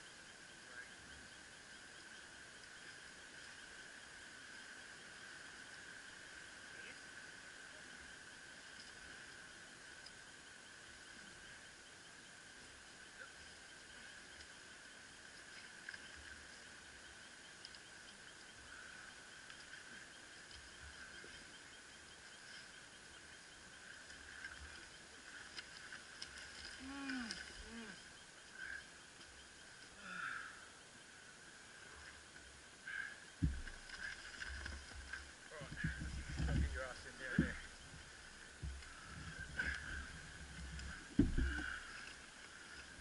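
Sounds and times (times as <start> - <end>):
insect chirring: 0.0 - 43.0.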